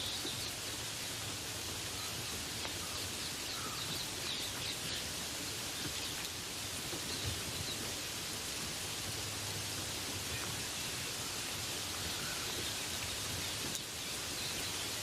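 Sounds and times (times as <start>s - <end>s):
birds chirping: 0.0s - 8.1s, 9.2s - 15.0s
steady rain falling: 0.0s - 15.0s.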